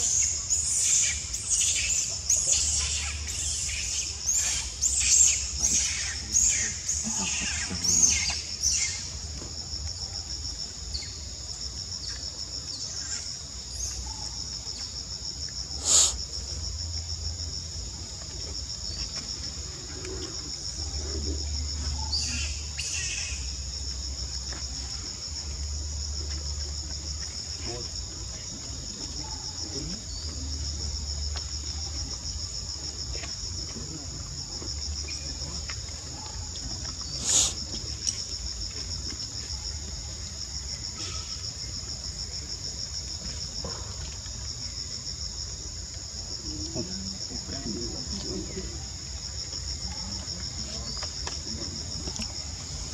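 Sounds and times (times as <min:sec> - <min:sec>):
insect chorus buzzing: 0:00.0 - 0:52.9.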